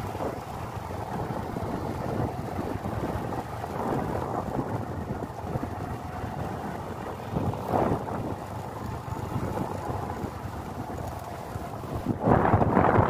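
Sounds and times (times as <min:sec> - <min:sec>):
engine and road noise: 0:00.0 - 0:13.0
wind buffeting microphone: 0:00.0 - 0:13.0.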